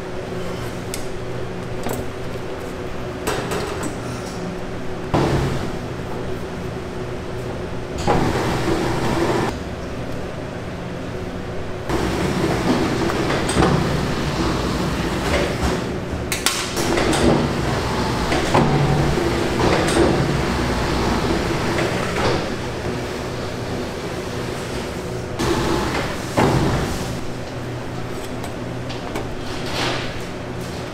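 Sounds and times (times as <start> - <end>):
machine hum: 4.6 - 30.9.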